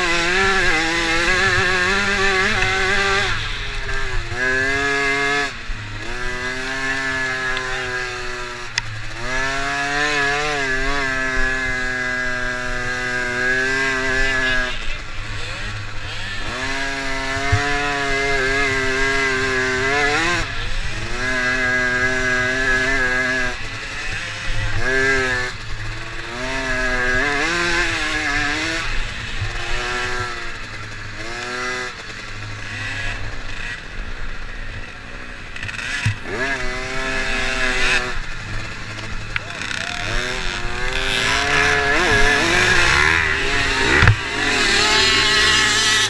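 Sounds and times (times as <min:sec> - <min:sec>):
rumble of rough ground: 0:00.0 - 0:46.0
small engine revving: 0:00.0 - 0:46.0
wind: 0:00.0 - 0:46.0.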